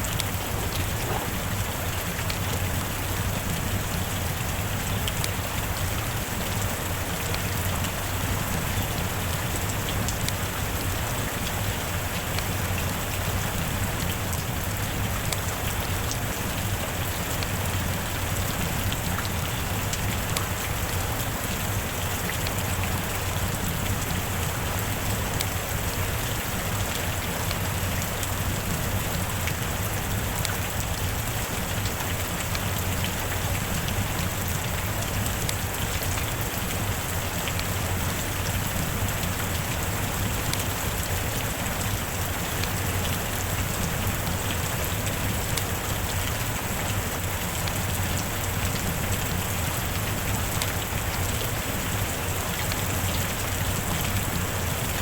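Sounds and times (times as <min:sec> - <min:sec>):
raindrops ticking: 0:00.0 - 0:55.0
steady rain falling: 0:00.0 - 0:55.0.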